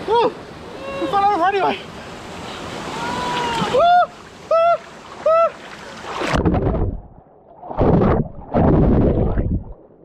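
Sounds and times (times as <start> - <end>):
water splashing and sloshing: 1.9 - 10.0.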